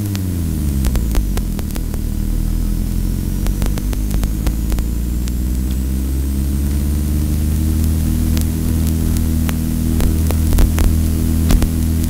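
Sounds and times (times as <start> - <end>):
crackling clicks: 0.0 - 12.0
road noise: 0.0 - 12.0
vehicle engine drone: 0.0 - 12.0.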